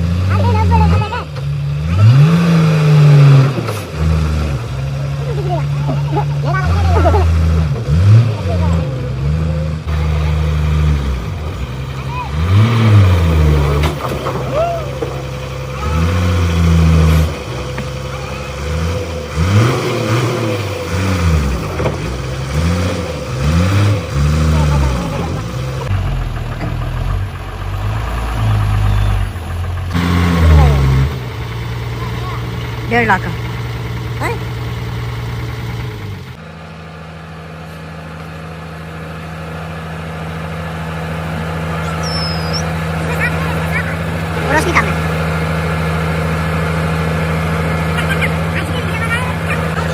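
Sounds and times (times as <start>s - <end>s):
heavy machine engine revving: 0.0s - 49.9s.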